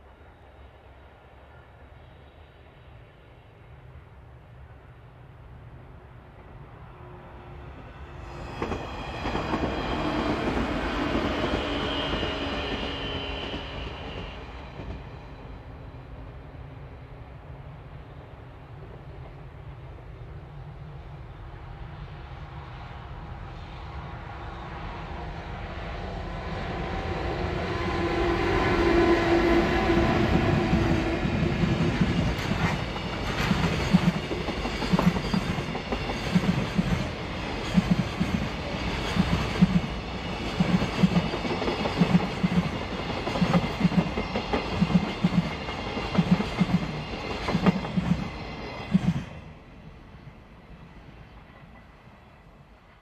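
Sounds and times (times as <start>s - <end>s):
electric locomotives passing: 0.0s - 53.0s.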